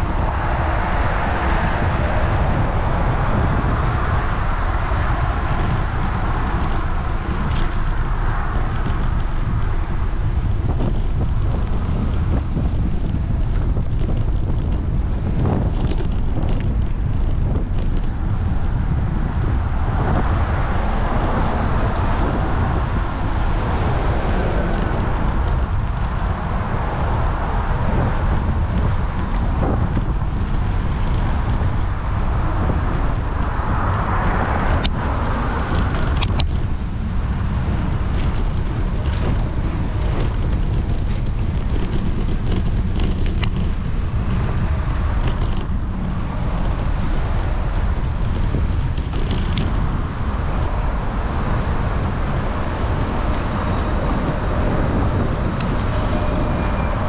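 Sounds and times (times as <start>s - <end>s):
cars passing: 0.0s - 57.0s
wind rumbling on microphone: 0.0s - 57.0s.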